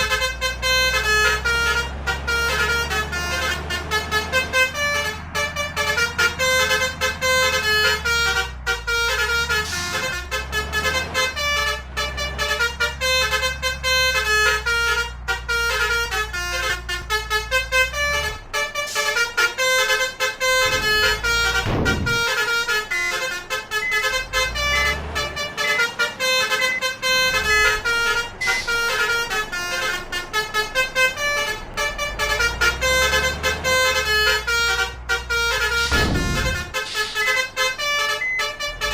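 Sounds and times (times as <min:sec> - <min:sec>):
bus engines running: 0:00.0 - 0:38.9
bus horns playing tune: 0:00.0 - 0:38.9.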